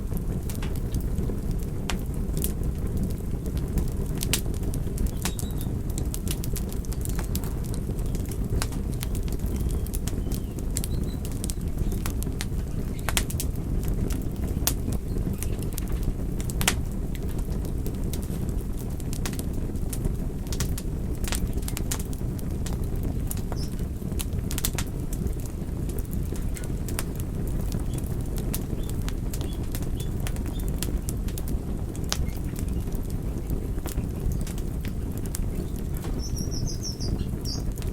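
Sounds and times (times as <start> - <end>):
fire rumble: 0.0 - 37.9
wood fire crackling: 0.0 - 37.9.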